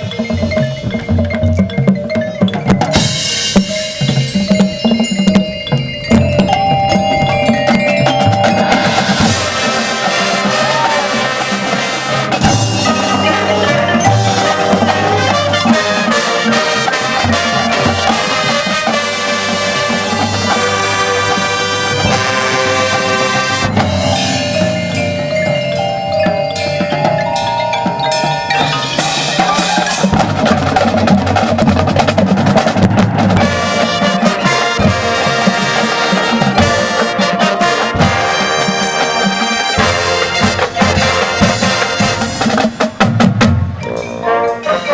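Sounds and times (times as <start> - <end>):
drums: 0.0 - 44.9
mallet instruments: 0.0 - 44.9
marching band music: 0.0 - 44.9.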